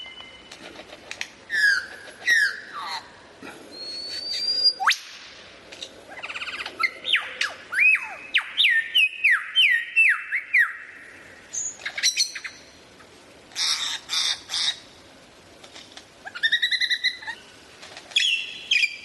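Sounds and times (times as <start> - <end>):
songbird singing: 0.0 - 0.6, 1.4 - 15.0, 16.2 - 19.0.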